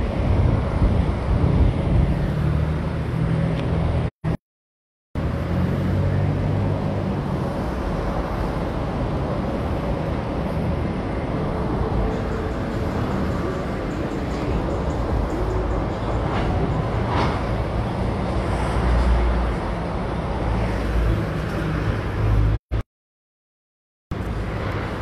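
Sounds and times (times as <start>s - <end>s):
city street traffic: 0.0s - 4.4s, 5.2s - 22.8s, 24.1s - 25.0s.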